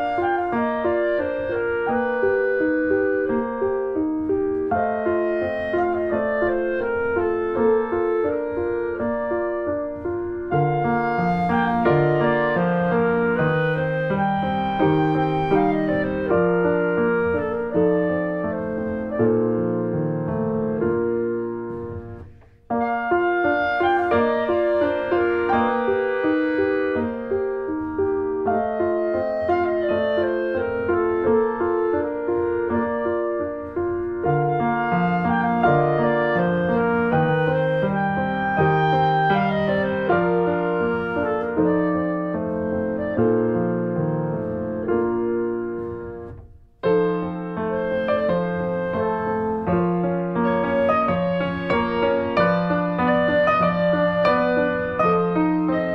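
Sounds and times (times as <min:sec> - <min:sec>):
piano music: 0:00.0 - 0:55.9.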